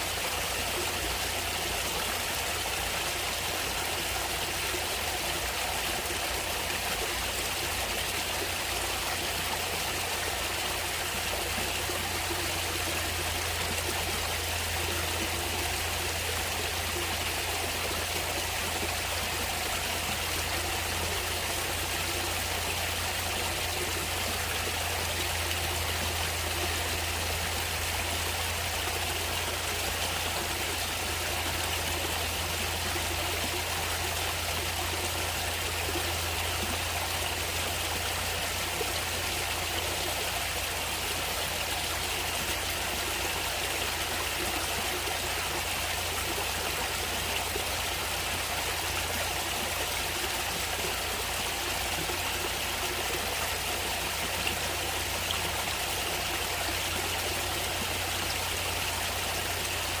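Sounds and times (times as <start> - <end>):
running water flowing: 0.0 - 60.0.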